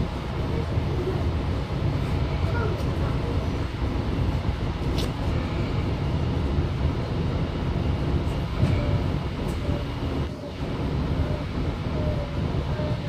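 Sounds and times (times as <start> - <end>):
electric train running rumble: 0.0 - 13.0.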